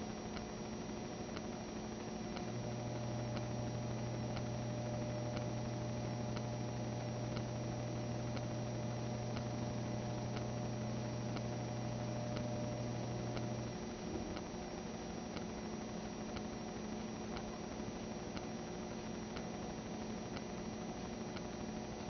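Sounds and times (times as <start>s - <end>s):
faint ticks: 0.0s - 14.6s, 15.3s - 22.0s
electrical hum with hiss: 0.0s - 22.0s.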